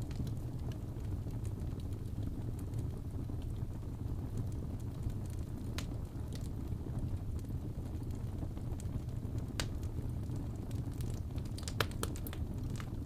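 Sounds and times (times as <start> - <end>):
fire burning with low rumble: 0.0 - 13.0
fire crackling and popping: 0.0 - 13.0.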